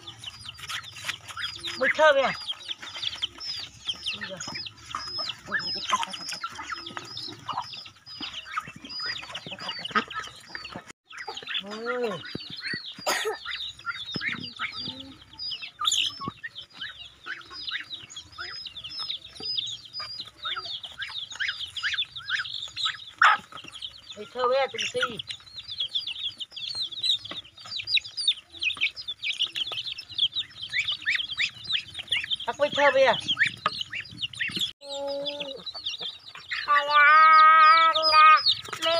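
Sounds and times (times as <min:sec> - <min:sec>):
chicks peeping: 0:00.0 - 0:38.9
hens clucking: 0:00.0 - 0:38.9.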